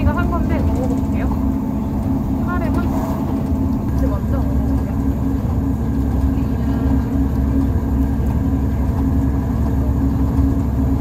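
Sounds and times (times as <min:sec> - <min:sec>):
train interior rumble and hum: 0:00.0 - 0:11.0.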